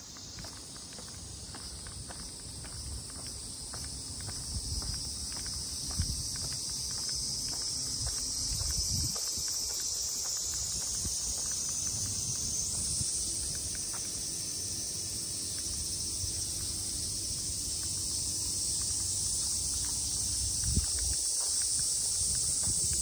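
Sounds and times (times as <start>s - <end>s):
footsteps walking: 0.0s - 23.0s
insects droning: 0.0s - 23.0s.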